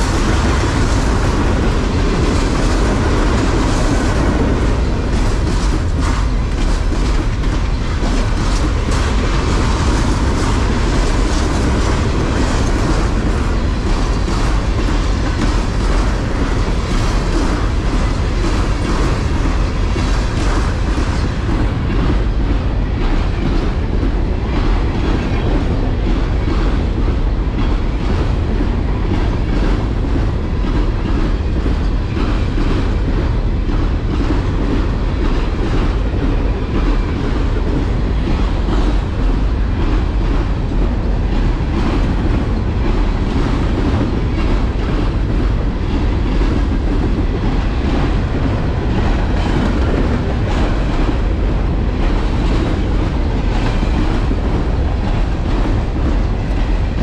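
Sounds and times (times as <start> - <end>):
train rumbling past: 0.0 - 57.0
wheels clicking over rail joints: 0.0 - 57.0.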